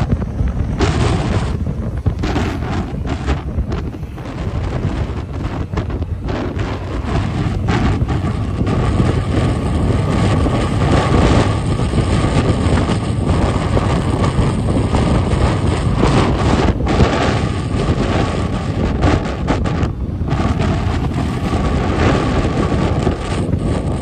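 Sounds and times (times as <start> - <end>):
motorcycle engine and road noise: 0.0 - 24.0
wind rushing over microphone: 0.0 - 24.0.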